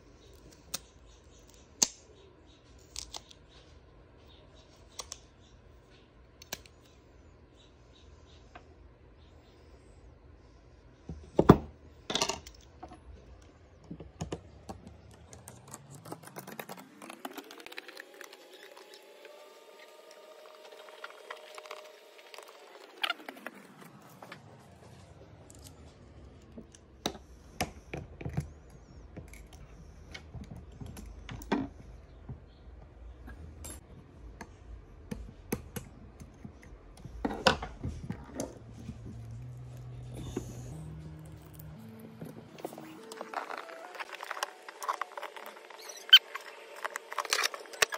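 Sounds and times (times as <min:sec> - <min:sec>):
faint hum rising and falling: 0:00.0 - 0:47.9.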